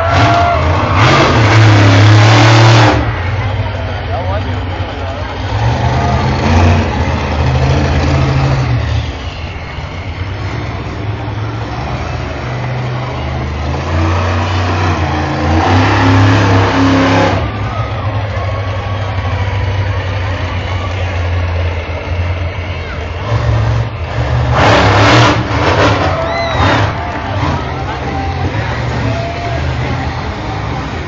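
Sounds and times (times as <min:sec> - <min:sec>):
monster truck engine revving: 0:00.0 - 0:31.0
low engine drone: 0:00.5 - 0:31.0.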